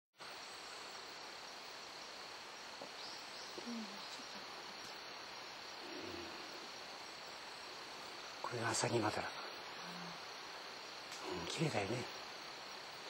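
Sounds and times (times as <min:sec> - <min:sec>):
high-pitched insect trill: 0:00.2 - 0:13.0
steady hiss: 0:00.2 - 0:13.0.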